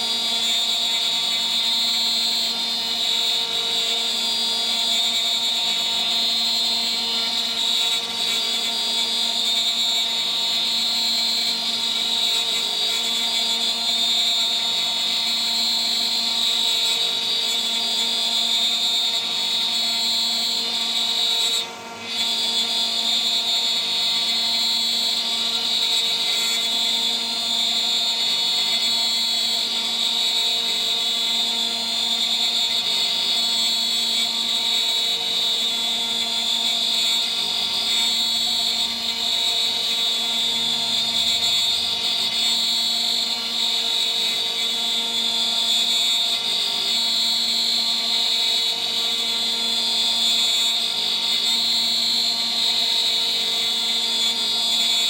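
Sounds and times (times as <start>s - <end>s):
router spindle high-pitched whine: 0.0s - 55.0s.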